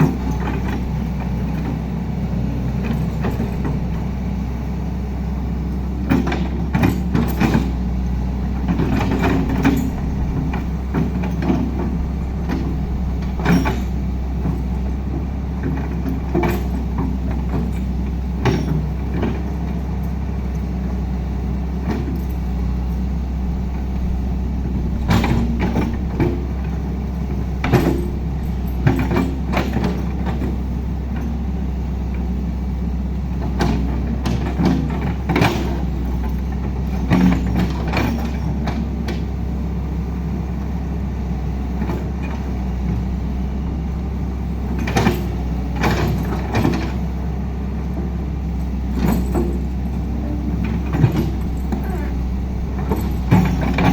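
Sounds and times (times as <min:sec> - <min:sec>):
diesel machinery running: 0:00.0 - 0:53.9
knocks and clanks: 0:02.7 - 0:04.4, 0:06.0 - 0:20.8, 0:21.7 - 0:31.4, 0:33.4 - 0:39.4, 0:41.8 - 0:47.2, 0:47.9 - 0:53.9.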